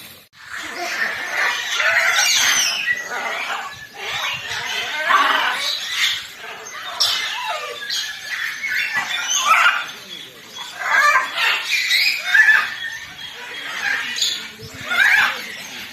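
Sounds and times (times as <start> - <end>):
birds calling and squawking: 0.0 - 15.9.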